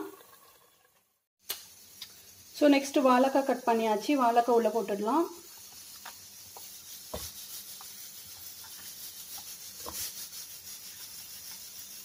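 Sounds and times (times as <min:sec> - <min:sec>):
steady hiss: 0:01.4 - 0:12.0.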